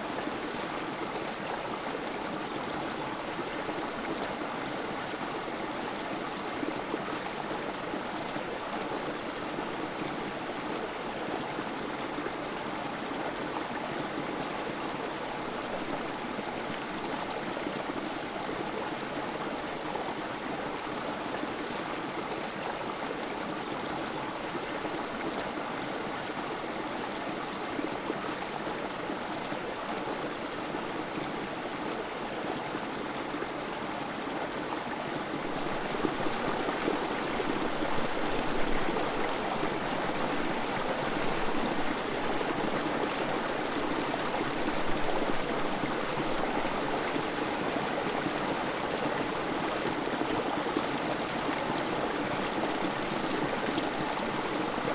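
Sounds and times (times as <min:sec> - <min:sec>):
water babbling over rocks: 0:00.0 - 0:54.9.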